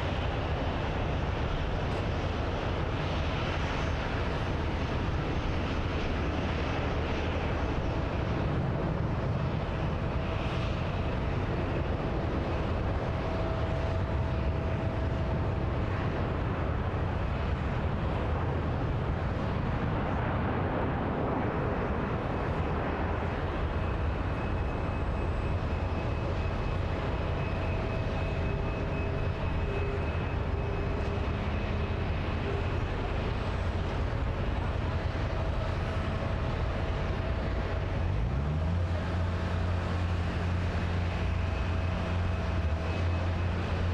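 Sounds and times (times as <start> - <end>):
faint whining tones: 0.0 - 43.9
jet engines running: 0.0 - 43.9.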